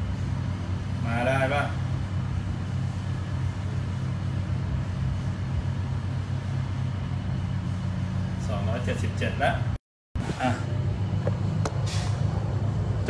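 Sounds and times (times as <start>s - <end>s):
deep mechanical drone: 0.0s - 13.0s.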